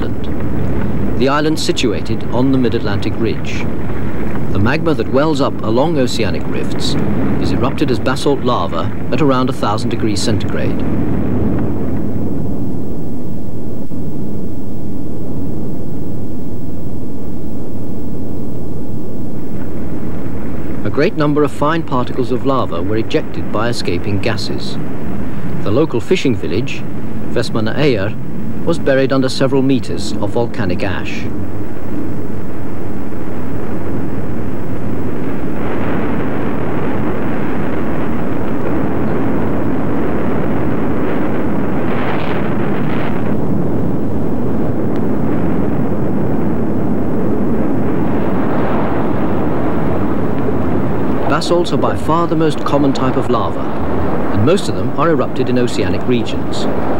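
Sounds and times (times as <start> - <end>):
lava fountain roaring: 0.0 - 13.0, 19.4 - 56.9
volcanic eruption rumbling: 0.0 - 56.9.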